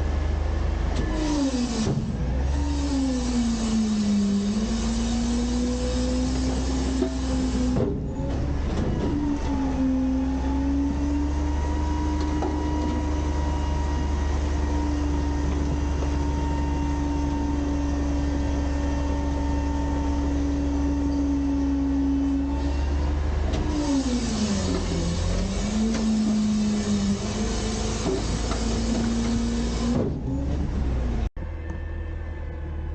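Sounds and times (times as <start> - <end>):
hydraulic packer humming: 0.0 - 32.9.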